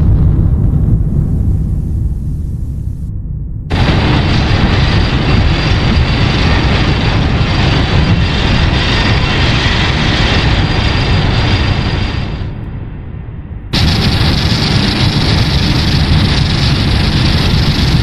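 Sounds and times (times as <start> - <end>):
deep rumble: 0.0 - 18.0
loud rushing noise: 0.0 - 18.0.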